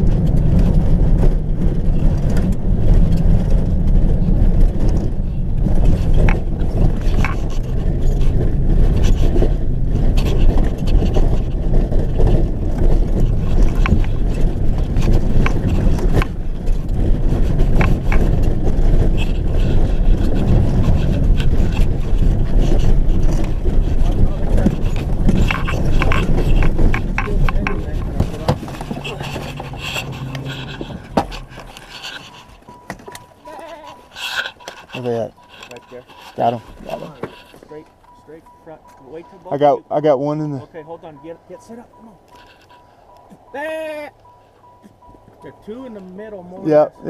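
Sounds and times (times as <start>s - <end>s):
vehicle driving rumble: 0.0s - 47.0s.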